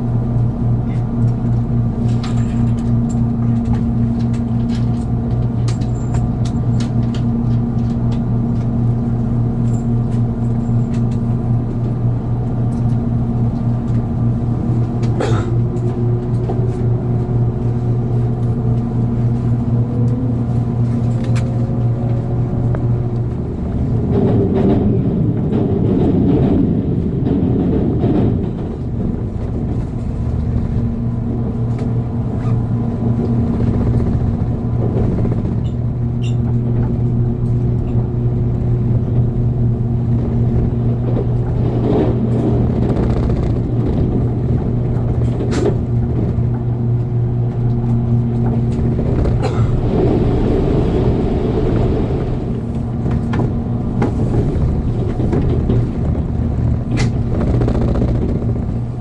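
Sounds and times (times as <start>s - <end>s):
train rumble with low hum: 0.0s - 59.0s.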